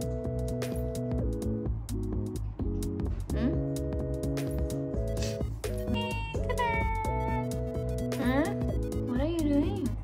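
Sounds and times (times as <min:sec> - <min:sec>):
held chords: 0:00.0 - 0:10.0
light percussive beat: 0:00.0 - 0:10.0.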